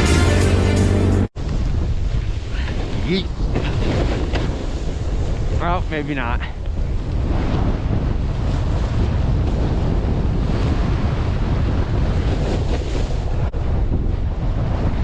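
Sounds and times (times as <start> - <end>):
wind gusts on microphone: 1.1 - 15.0.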